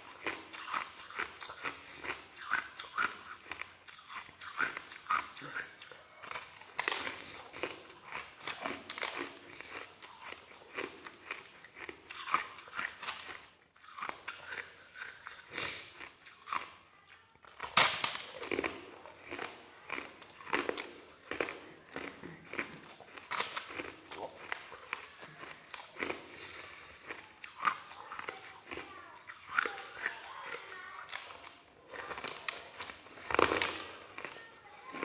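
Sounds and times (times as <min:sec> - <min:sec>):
crushed ice being chewed: 0:00.0 - 0:35.0.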